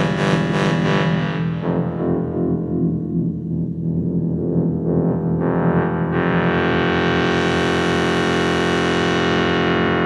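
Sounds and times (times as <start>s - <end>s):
pulsing bass: 0.0s - 8.7s
synthwave music: 0.0s - 10.0s.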